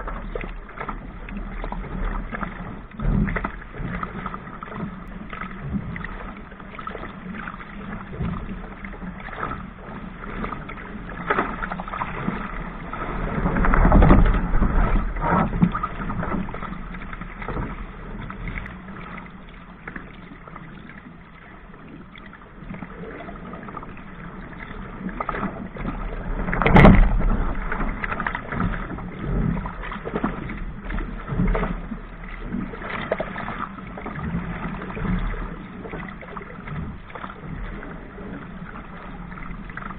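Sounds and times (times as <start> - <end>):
water slaps on hull: 0.0 - 39.9
water splashing against hull: 0.0 - 39.9.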